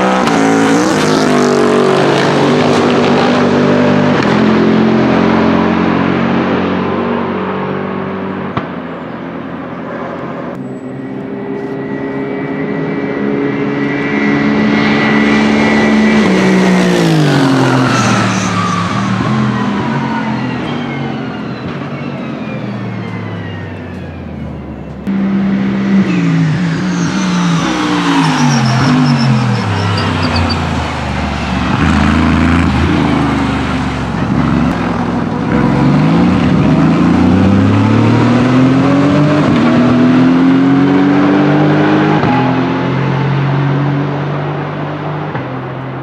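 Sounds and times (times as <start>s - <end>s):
race car engine with gear changes: 0.0s - 46.0s.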